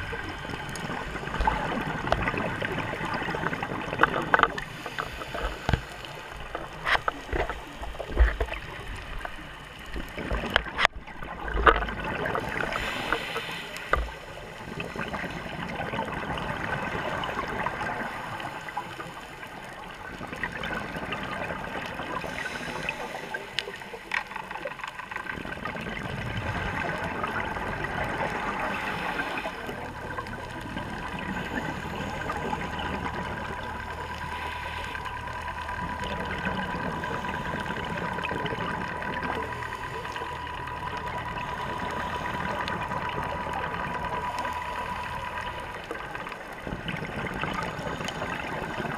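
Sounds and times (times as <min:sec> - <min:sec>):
faint steady tone: 0:00.0 - 0:48.9
muffled underwater rushing hiss: 0:00.0 - 0:48.9.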